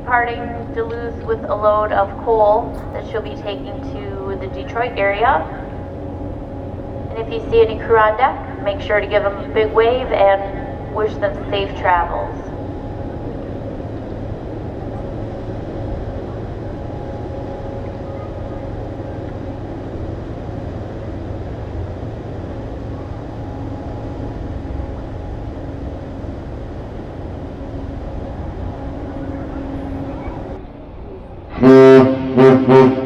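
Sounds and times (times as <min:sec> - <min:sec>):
ship diesel engines droning: 0:00.0 - 0:33.0.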